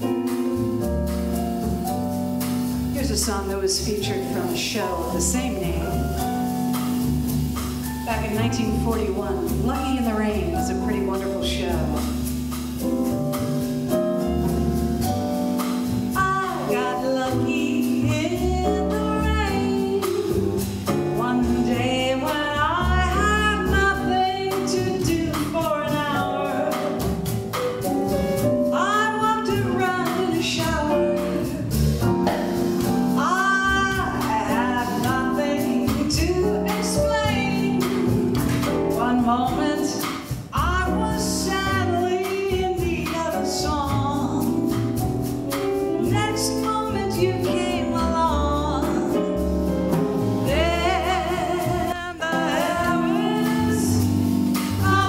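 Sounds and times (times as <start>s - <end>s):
drums with cymbal beat: 0.0s - 55.0s
piano: 0.0s - 55.0s
upright bass: 0.0s - 55.0s
woman singing jazz: 0.0s - 55.0s.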